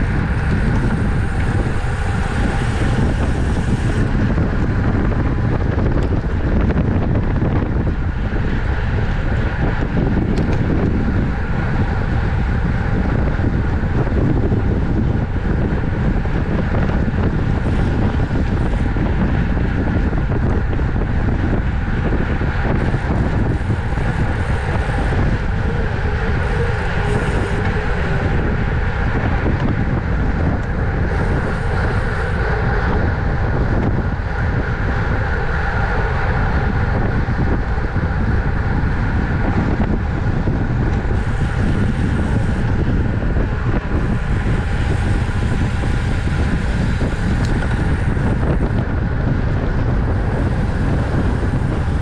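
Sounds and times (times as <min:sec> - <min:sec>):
road and tyre noise: 0:00.0 - 0:52.0
wind rushing over microphone: 0:00.0 - 0:52.0.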